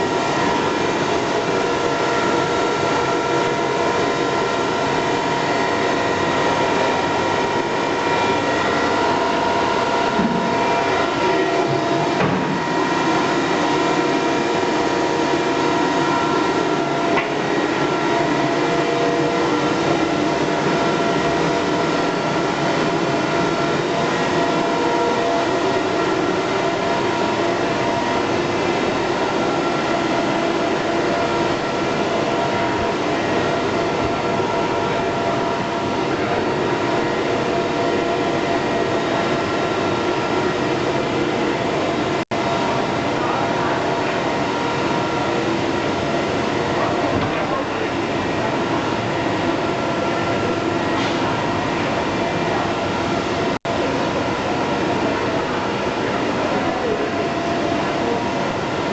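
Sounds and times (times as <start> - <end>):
printing press running: 0.0 - 58.9.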